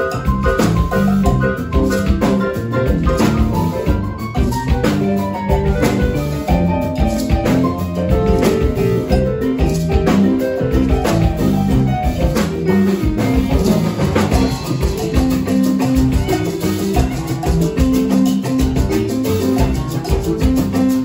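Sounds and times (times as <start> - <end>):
drum kit: 0.0 - 21.0
keyboards: 0.0 - 21.0
shaken hand percussion: 0.0 - 21.0.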